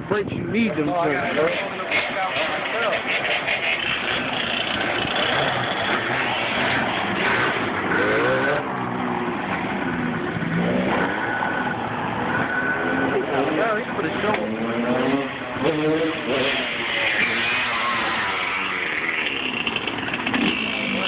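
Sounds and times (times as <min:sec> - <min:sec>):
off-road vehicle engine revving: 0:01.0 - 0:21.0.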